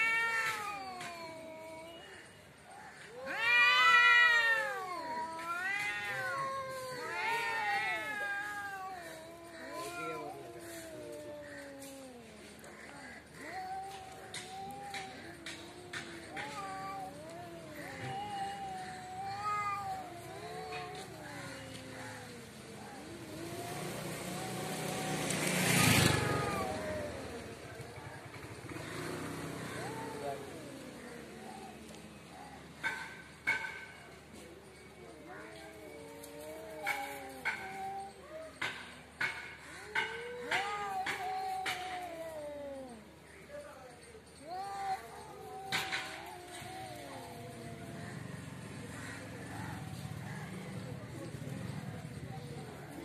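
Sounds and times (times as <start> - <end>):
cats yowling: 0.0 - 53.0
motor vehicle passing: 4.7 - 53.0.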